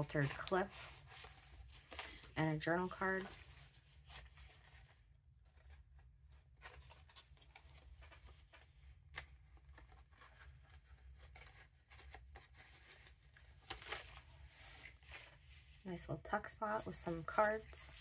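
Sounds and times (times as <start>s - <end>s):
paper rustling: 0.0s - 15.8s, 16.6s - 18.0s.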